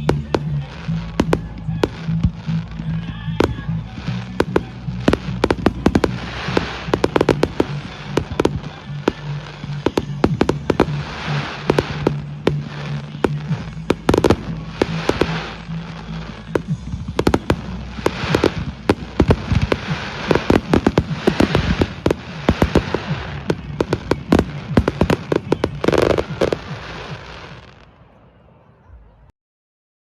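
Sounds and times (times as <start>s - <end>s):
fireworks bangs and crackles: 0.0s - 28.3s.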